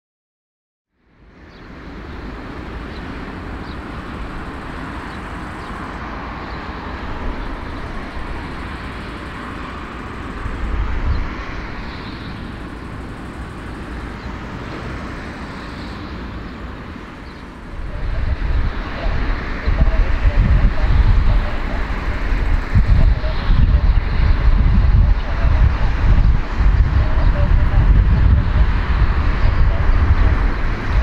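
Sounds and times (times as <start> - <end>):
jet engines rumbling: 1.2 - 31.0.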